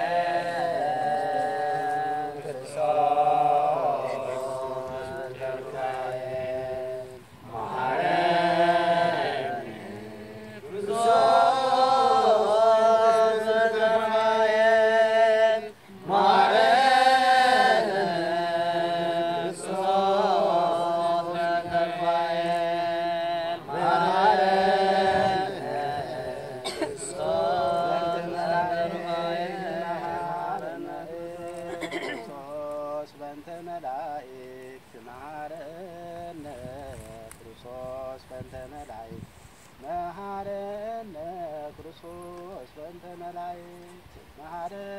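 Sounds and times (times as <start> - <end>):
person chanting a prayer: 0.0 - 39.2.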